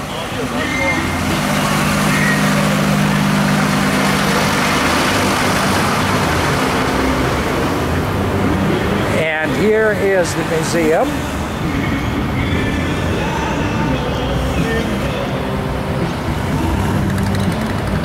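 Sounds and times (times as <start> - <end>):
fire engine idling: 0.0 - 17.4
pickup truck driving past: 0.0 - 18.0.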